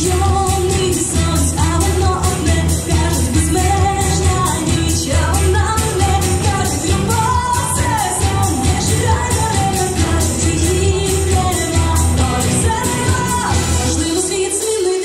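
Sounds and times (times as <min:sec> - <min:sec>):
dance song with singing: 0:00.0 - 0:15.0.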